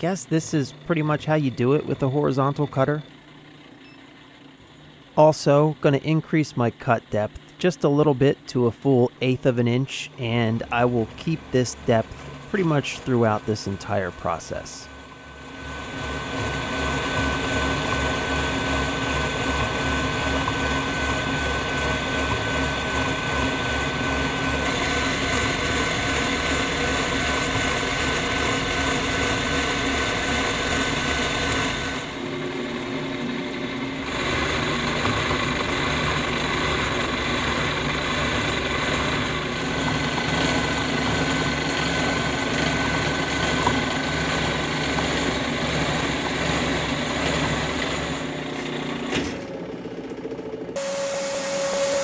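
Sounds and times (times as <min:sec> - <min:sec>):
milling machine whine: 0:00.0 - 0:52.0.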